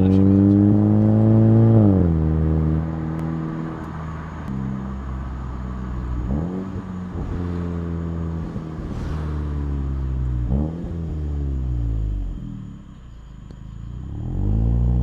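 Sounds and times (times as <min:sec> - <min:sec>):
car exhaust with falling revs: 0:00.0 - 0:15.0.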